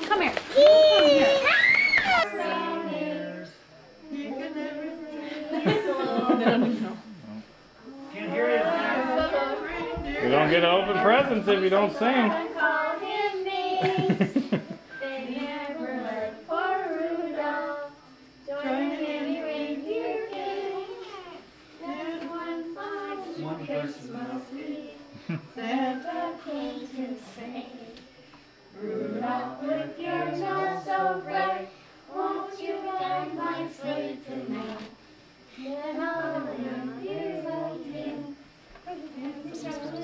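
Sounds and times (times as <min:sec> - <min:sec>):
group singing with children: 0:02.2 - 0:06.7, 0:08.0 - 0:14.3, 0:14.9 - 0:28.0, 0:28.8 - 0:35.0, 0:35.6 - 0:40.0.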